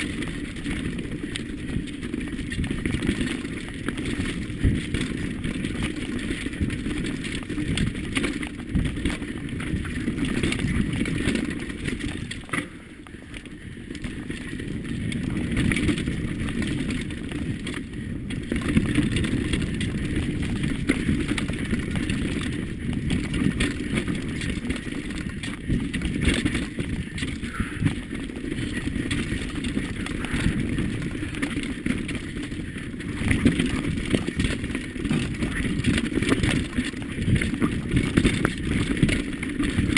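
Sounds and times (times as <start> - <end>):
bike clattering over bumps: 0.0 - 39.9
bike tyres on dirt: 0.0 - 39.9
wind rumble on camera: 0.0 - 39.9.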